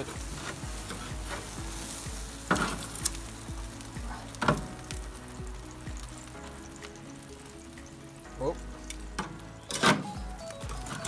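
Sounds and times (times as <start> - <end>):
chicken sizzling on a grill: 0.0 - 11.0.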